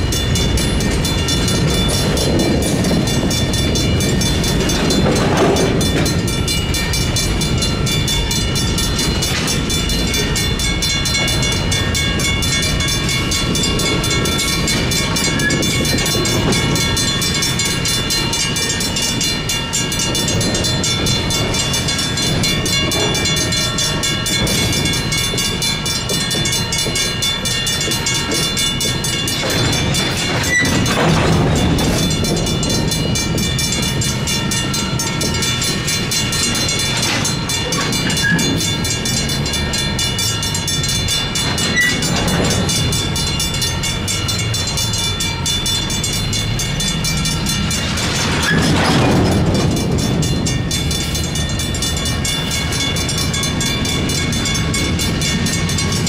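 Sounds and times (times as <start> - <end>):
diesel locomotive rumble: 0.0 - 56.0
freight cars clattering: 0.0 - 56.0
railroad crossing bell ringing: 0.0 - 56.0.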